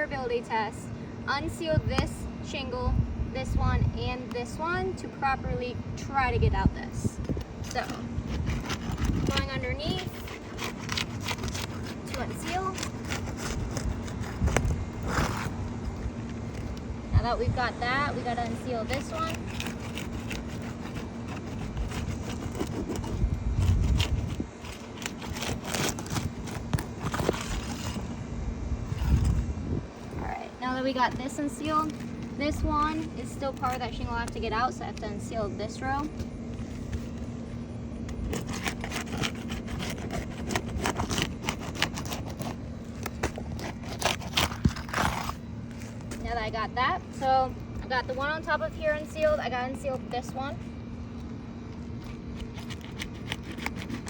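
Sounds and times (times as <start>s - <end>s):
steady low hum: 0.0s - 54.0s
pry tool scraping shingle: 7.2s - 16.9s, 17.6s - 28.2s, 28.9s - 54.0s.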